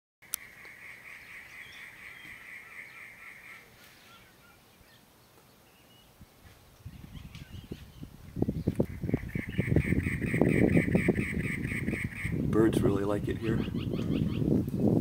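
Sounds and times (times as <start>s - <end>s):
birds chattering and chirping: 0.2s - 15.0s.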